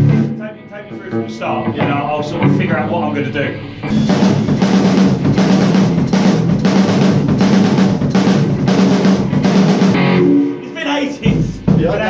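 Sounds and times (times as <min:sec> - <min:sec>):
drum kit rock beat: 0:00.0 - 0:03.0, 0:03.8 - 0:12.0.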